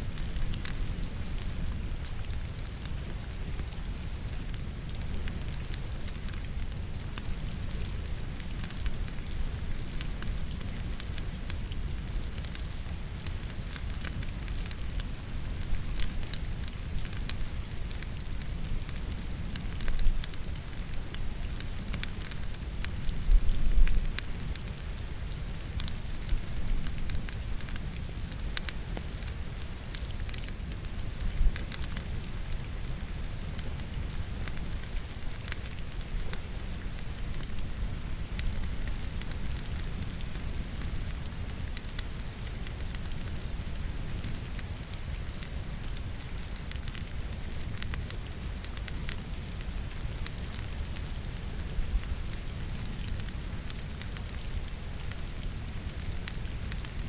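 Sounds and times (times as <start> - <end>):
rain: 0.0 - 57.0
wood fire crackling and popping: 0.0 - 57.0.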